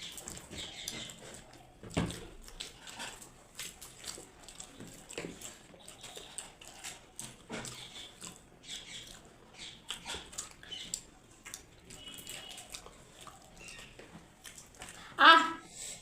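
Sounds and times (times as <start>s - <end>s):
lip smacks: 0.0s - 15.1s
people chewing: 0.0s - 16.0s.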